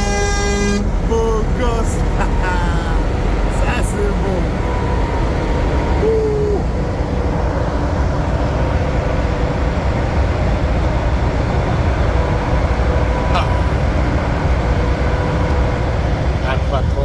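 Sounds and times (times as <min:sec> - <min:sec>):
steady hum: 0:00.0 - 0:17.0
truck engine and road rumble: 0:00.0 - 0:17.0.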